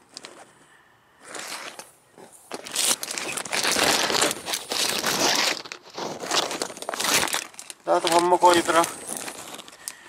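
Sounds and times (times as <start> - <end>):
plastic sheeting crinkling: 1.2 - 10.0.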